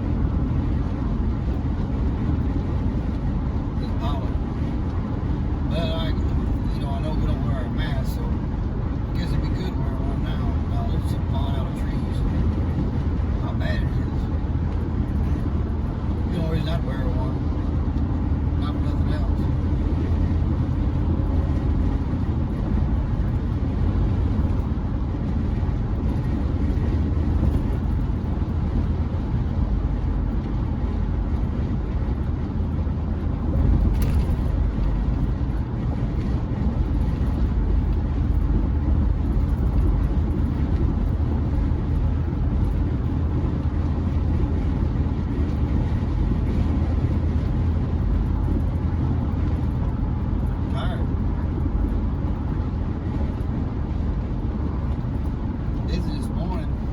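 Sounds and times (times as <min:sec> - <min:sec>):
road and engine noise in cab: 0:00.0 - 0:56.9.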